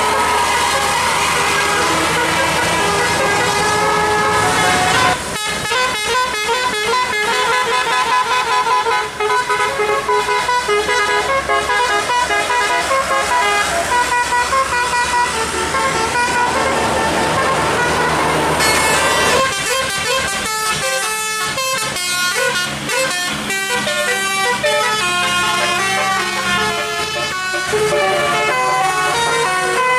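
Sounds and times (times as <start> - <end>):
musical bus air horn: 0.0 - 29.9.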